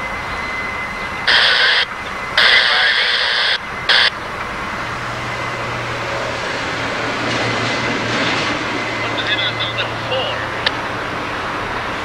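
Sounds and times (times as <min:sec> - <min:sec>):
diesel locomotive engines droning: 0:00.0 - 0:12.0
freight train rolling by: 0:00.0 - 0:12.0.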